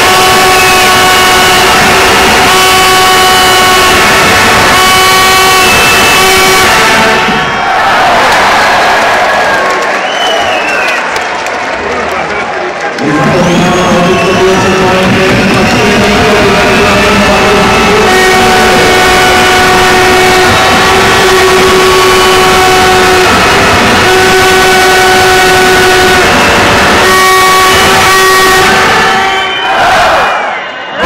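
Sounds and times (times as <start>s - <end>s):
handheld horns blaring: 0.0s - 7.7s, 13.0s - 31.0s
loud crowd: 0.0s - 31.0s.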